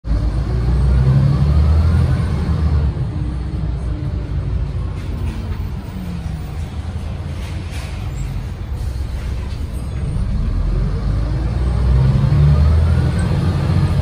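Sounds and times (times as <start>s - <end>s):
bus diesel engine: 0.0s - 14.0s.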